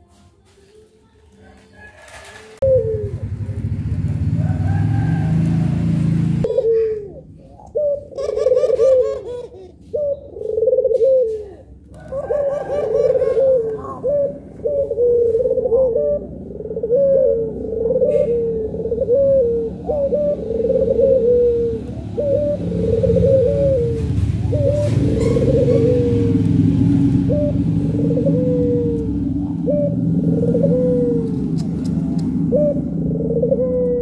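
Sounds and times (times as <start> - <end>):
doves cooing: 1.4 - 34.0.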